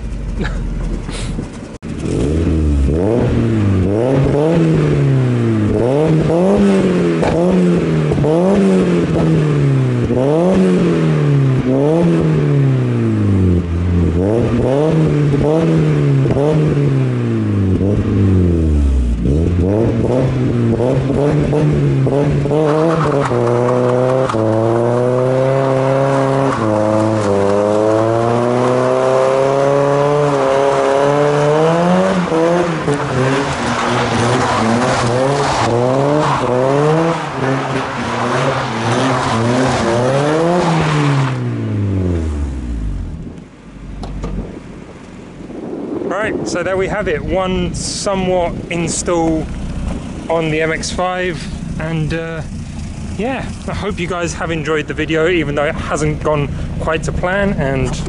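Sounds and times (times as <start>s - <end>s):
car engine revving: 0.0s - 58.0s
car pulling away: 0.0s - 58.0s.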